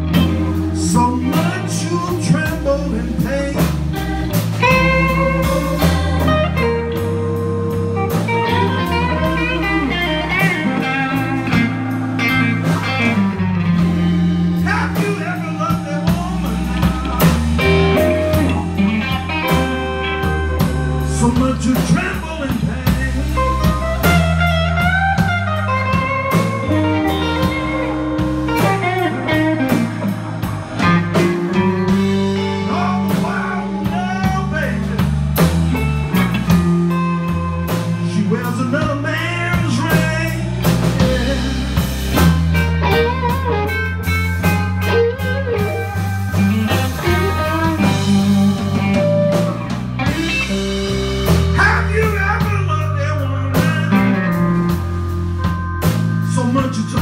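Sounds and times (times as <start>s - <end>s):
drum kit: 0.0s - 57.0s
electric guitars bending notes: 0.0s - 57.0s.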